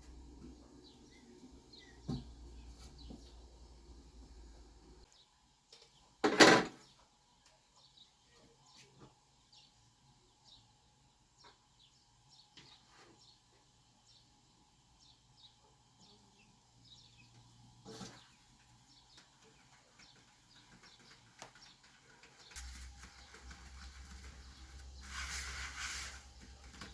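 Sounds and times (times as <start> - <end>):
small birds chirping: 0.5 - 3.6, 6.8 - 26.9.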